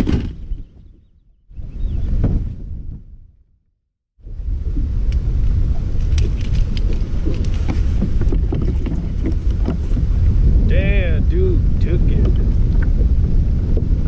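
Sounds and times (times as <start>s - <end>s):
wind buffeting microphone: 0.0s - 3.4s, 4.2s - 14.0s.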